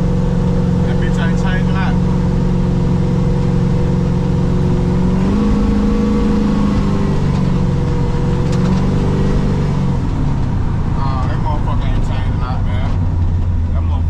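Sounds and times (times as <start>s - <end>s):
pickup engine running: 0.0s - 14.0s.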